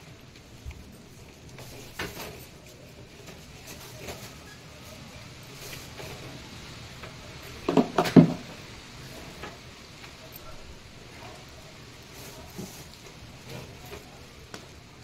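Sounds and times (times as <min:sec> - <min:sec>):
plastic pipe handling rustle: 0:00.0 - 0:10.4, 0:12.0 - 0:15.0.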